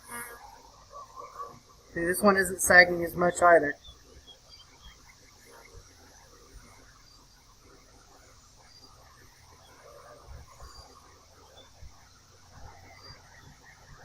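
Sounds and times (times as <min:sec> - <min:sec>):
honeybees buzzing: 0:00.0 - 0:12.5.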